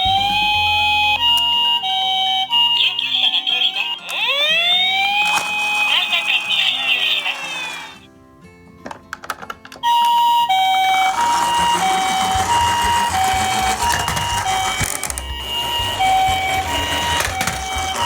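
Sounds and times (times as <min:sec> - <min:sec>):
toy two-tone siren: 0:00.0 - 0:08.0, 0:09.8 - 0:18.0.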